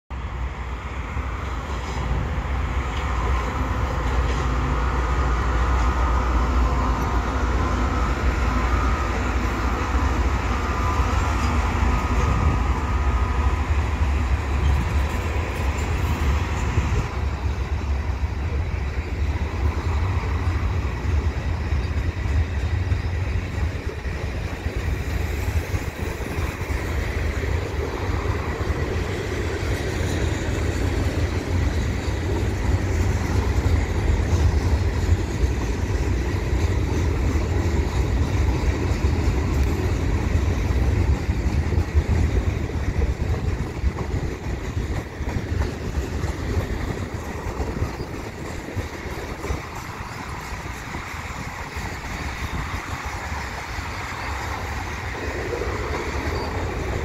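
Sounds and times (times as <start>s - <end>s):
freight cars rolling on rails: 0.1s - 57.0s
locomotive engines droning: 0.1s - 57.0s.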